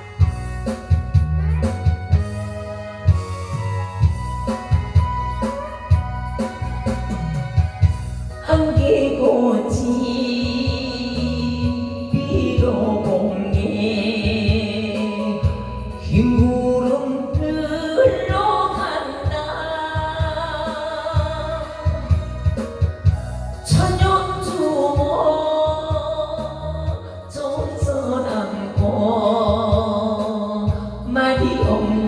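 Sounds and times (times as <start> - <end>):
backing track with bass beat: 0.0 - 32.0
person singing: 4.6 - 32.0.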